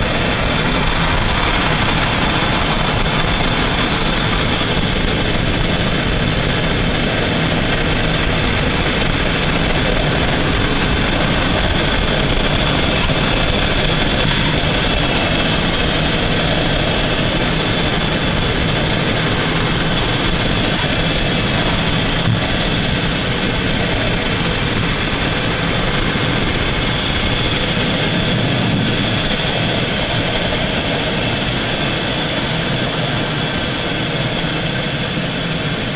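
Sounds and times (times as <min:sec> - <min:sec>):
low road and drivetrain rumble: 0:00.0 - 0:35.9.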